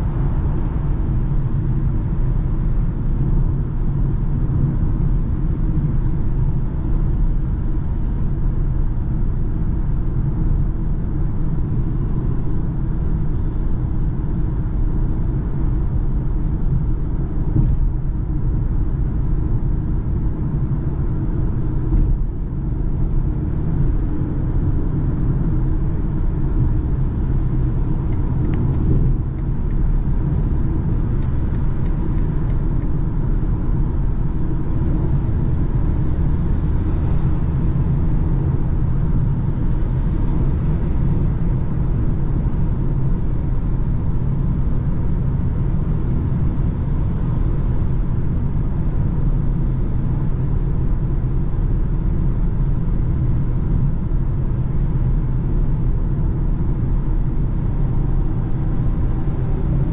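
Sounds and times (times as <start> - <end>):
car engine drone: 0.0 - 59.9.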